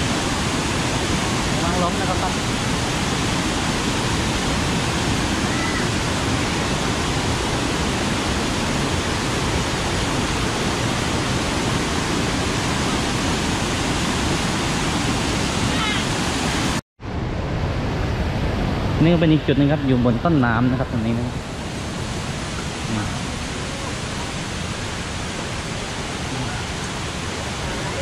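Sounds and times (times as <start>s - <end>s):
waterfall rushing over boulders: 0.0s - 28.0s.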